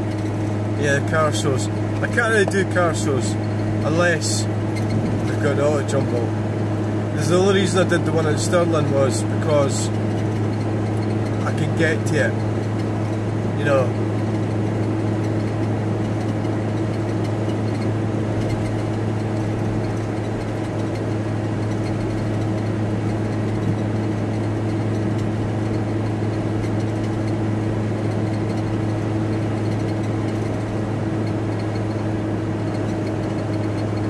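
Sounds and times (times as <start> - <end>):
van engine and road noise: 0.0 - 34.0.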